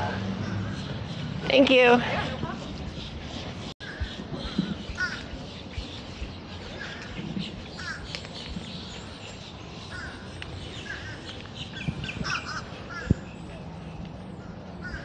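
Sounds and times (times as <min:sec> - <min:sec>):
birds giving harsh calls: 0:00.0 - 0:02.3, 0:02.9 - 0:15.0
steady outdoor background: 0:00.0 - 0:15.0.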